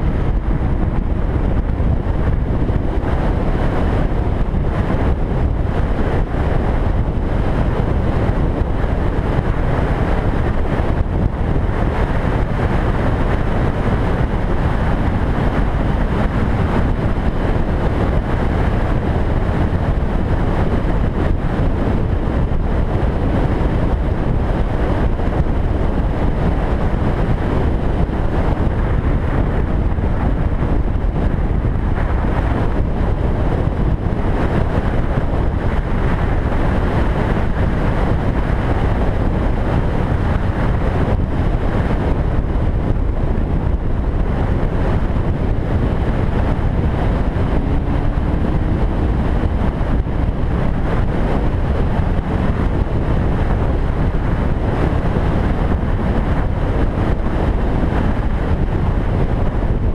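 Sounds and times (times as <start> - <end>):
road noise: 0.0 - 59.9
wind rushing on microphone: 0.0 - 59.9.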